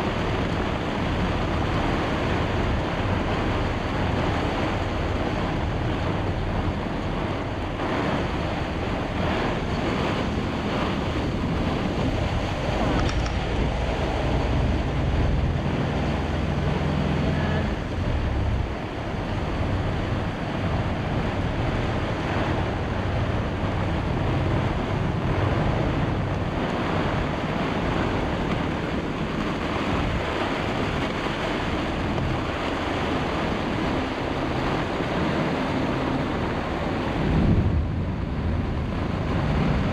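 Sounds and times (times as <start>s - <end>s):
wind and rain buffeting microphone: 0.0s - 39.9s.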